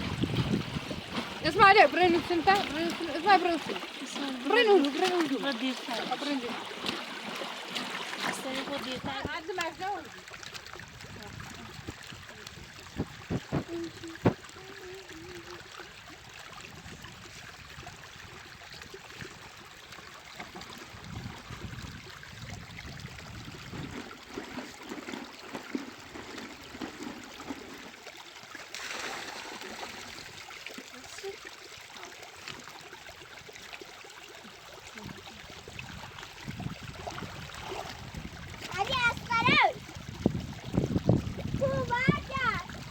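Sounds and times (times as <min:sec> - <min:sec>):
water running: 0:00.0 - 0:42.9.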